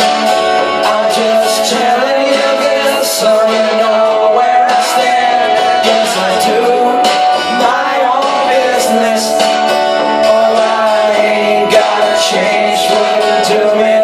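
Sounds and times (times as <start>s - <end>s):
acoustic guitar: 0.0s - 14.0s
man singing: 0.0s - 14.0s.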